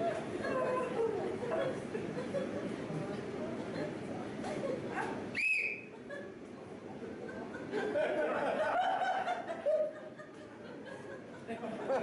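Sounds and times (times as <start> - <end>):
people laughing: 0.0 - 5.2, 5.9 - 12.0.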